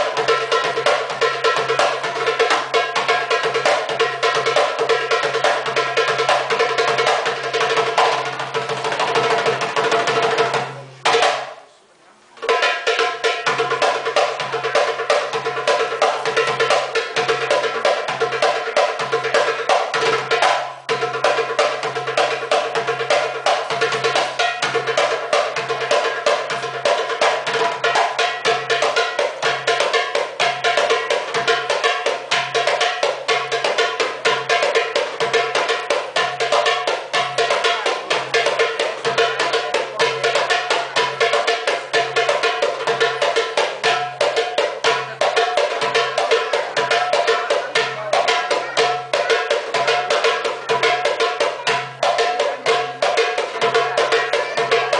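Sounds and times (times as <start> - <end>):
goblet drum fast rhythm: 0.0 - 11.6, 12.4 - 54.9.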